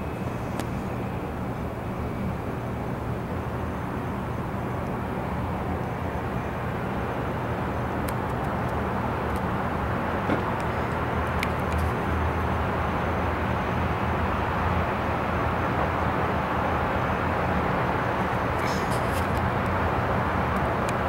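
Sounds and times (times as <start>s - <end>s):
low city rumble: 0.0s - 21.0s.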